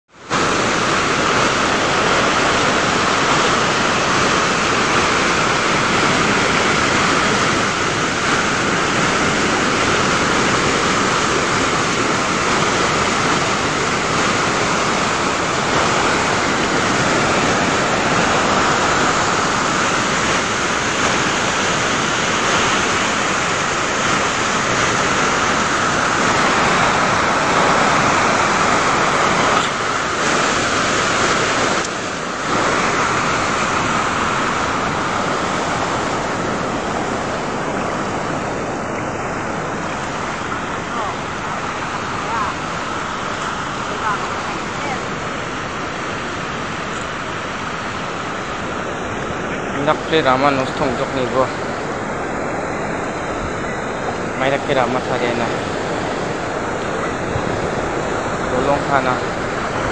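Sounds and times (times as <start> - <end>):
floodwater rushing: 0.1 - 59.9.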